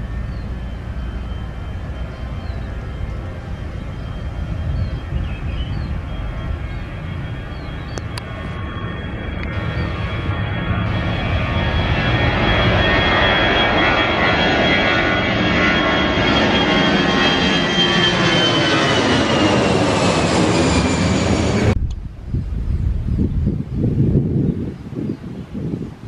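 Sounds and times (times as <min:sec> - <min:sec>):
faint wind noise: 0:00.0 - 0:16.3, 0:19.4 - 0:26.0
jet airliner passing overhead: 0:00.0 - 0:26.0.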